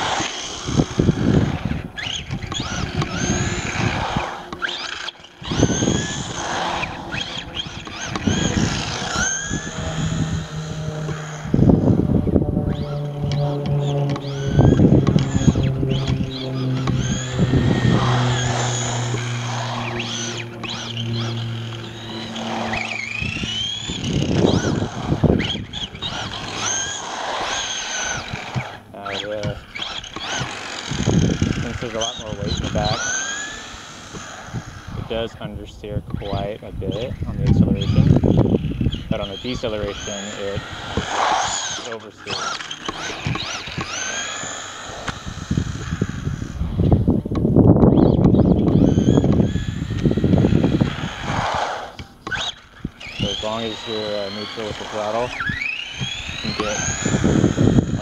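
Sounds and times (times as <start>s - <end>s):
tyre noise on asphalt: 0.0s - 35.1s, 40.0s - 58.0s
electric motor whining: 0.0s - 58.0s
steady rushing noise: 0.0s - 58.0s.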